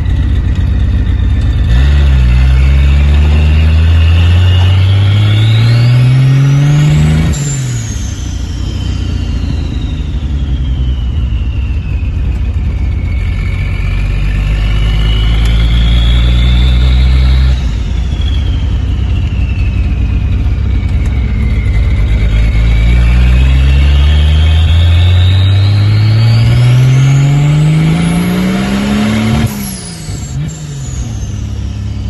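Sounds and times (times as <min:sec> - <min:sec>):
car engine running hard: 0:00.0 - 0:32.0
turbo whine: 0:00.0 - 0:32.0.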